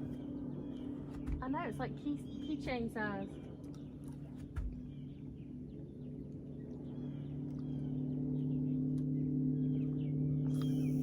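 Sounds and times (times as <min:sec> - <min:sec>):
birds chirping: 0:00.0 - 0:11.0
steady motor hum: 0:00.0 - 0:11.0.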